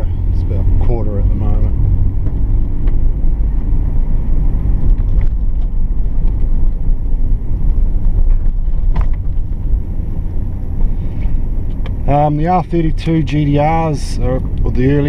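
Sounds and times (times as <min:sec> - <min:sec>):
car engine rumble: 0:00.0 - 0:15.0
road noise inside car: 0:00.0 - 0:15.0.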